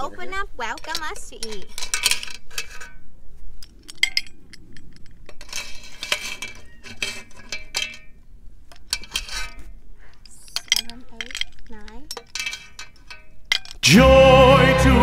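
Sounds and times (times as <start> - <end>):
shells and utensils clinking on cookware: 0.6 - 13.8.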